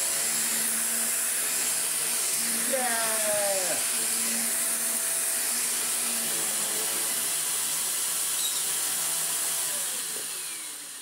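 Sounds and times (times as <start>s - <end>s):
upright vacuum cleaner running: 0.0s - 11.0s.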